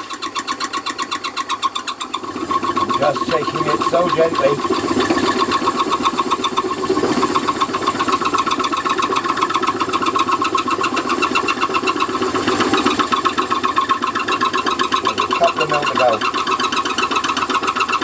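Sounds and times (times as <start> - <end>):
lathe milling with pulsing whine: 0.0 - 18.0.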